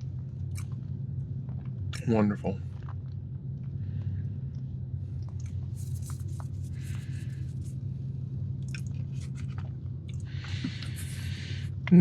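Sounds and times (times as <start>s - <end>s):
low hum: 0.0s - 12.0s
chewing cookie: 0.2s - 1.9s, 2.6s - 7.8s, 8.6s - 11.9s.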